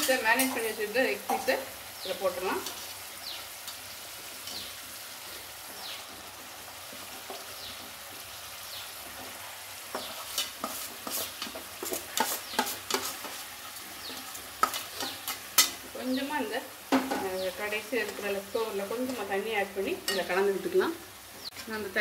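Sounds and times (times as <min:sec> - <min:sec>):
chicken sizzling in oil: 0:00.0 - 0:22.0
sharp crackles of frying: 0:00.0 - 0:22.0.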